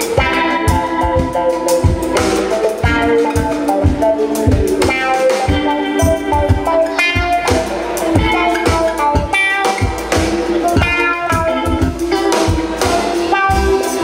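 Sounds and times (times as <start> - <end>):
electric guitar: 0.0 - 14.0
steady drum beat: 0.0 - 14.0.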